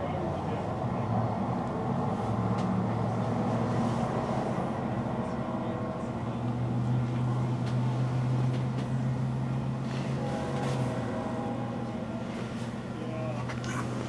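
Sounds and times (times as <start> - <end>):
bus engine droning: 0.0 - 14.0.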